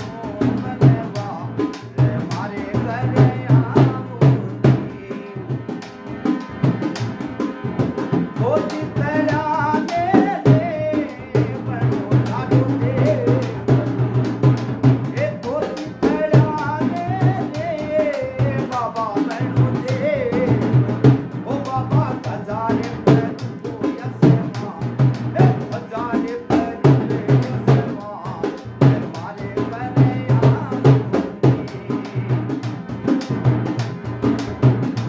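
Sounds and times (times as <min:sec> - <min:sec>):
barrel drum rhythm: 0:00.0 - 0:35.0.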